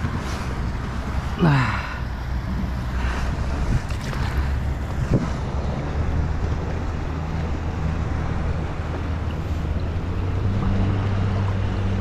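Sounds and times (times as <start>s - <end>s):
low engine hum: 0.0s - 12.0s
water: 0.0s - 12.0s
wind: 0.0s - 12.0s.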